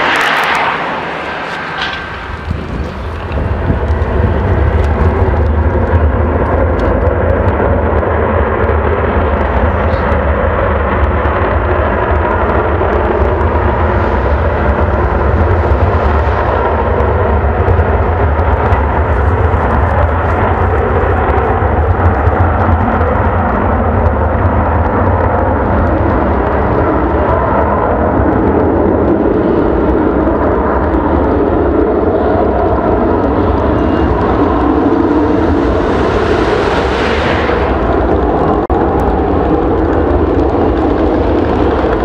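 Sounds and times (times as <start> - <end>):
jet engines roaring: 0.0 - 42.0.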